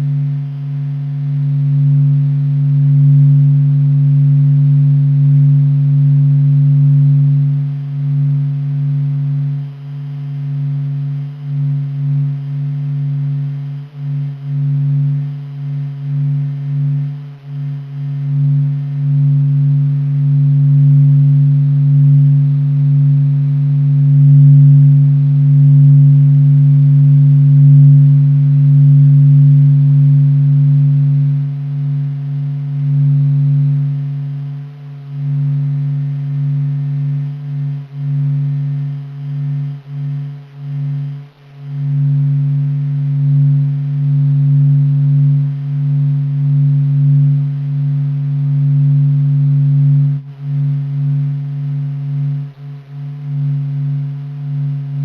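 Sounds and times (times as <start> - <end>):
deep steady drone: 0.0 - 55.0
faint higher tone: 0.0 - 55.0.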